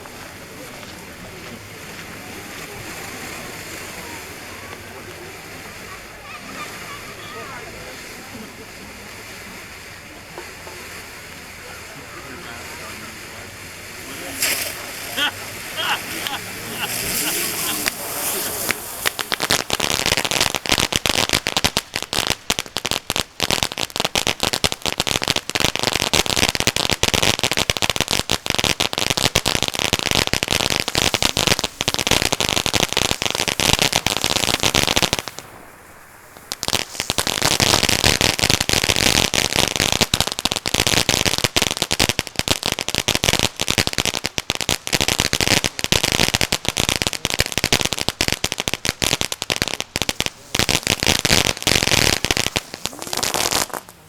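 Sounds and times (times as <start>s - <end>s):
firework fountain crackling: 0.0s - 54.0s
firework fountain hiss: 0.0s - 54.0s.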